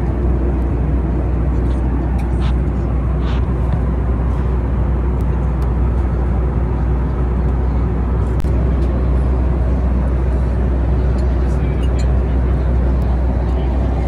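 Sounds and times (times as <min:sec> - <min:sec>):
rush of airflow: 0:00.0 - 0:11.6
airplane cabin rumble: 0:00.0 - 0:14.0.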